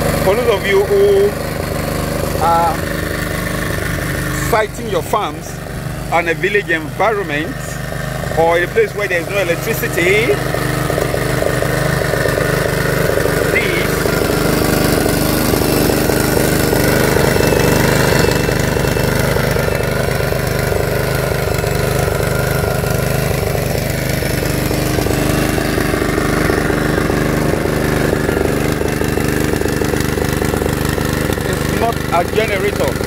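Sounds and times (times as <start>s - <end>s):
small petrol engine running: 0.0s - 33.0s.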